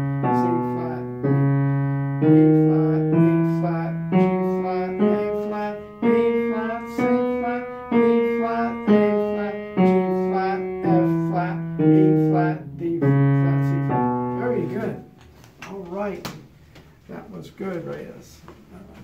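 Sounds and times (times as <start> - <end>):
piano playing a scale: 0.0 - 15.3.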